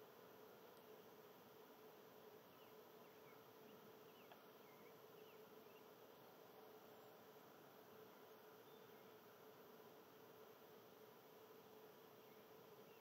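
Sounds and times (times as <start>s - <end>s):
faint steady hum and hiss: 0.0s - 13.0s.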